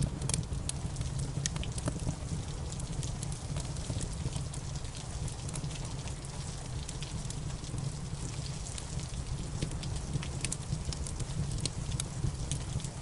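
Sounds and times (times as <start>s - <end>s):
rain: 0.0s - 13.0s
wood fire crackling: 0.0s - 13.0s.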